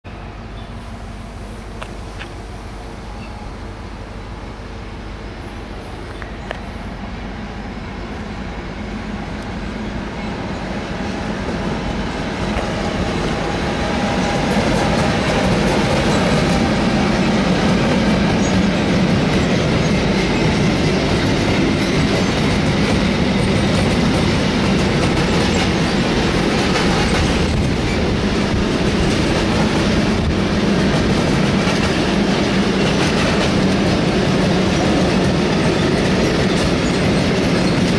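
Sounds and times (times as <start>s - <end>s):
freight train passing: 0.0s - 37.9s.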